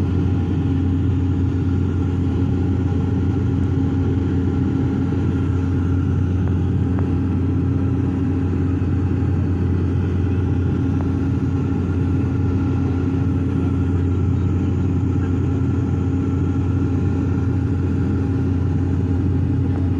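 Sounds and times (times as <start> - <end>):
propeller aircraft engine drone: 0.0 - 19.9.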